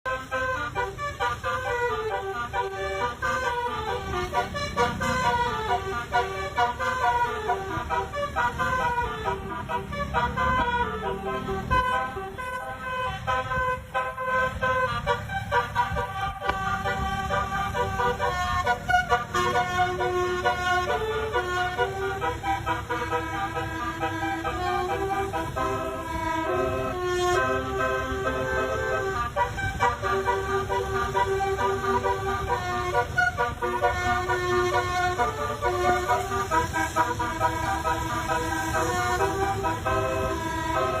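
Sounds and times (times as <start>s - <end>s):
multi-tone horn playing melody: 0.0s - 41.0s.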